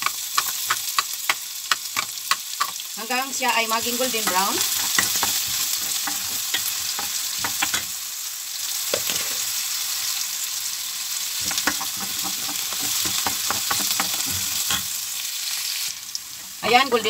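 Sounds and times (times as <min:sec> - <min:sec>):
garlic and onion sizzling in pan: 0:00.0 - 0:17.0.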